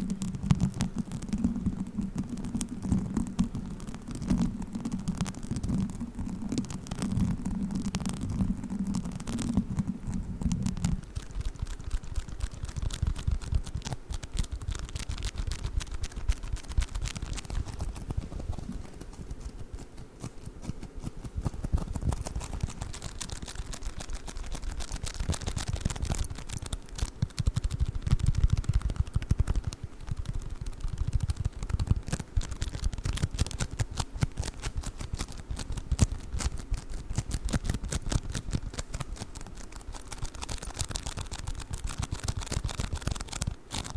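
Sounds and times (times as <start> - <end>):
foam beads crackling and popping: 0.0 - 43.9.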